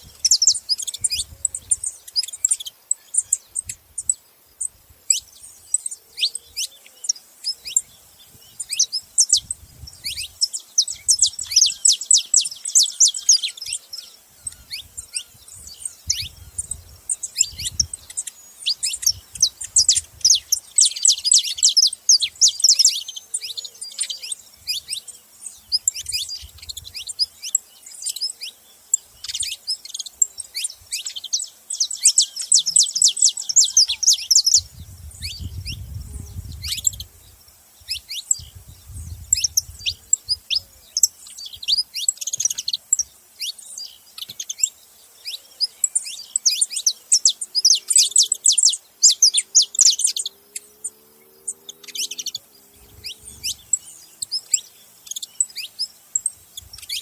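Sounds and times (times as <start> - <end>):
finches chirping: 0.0 - 57.0.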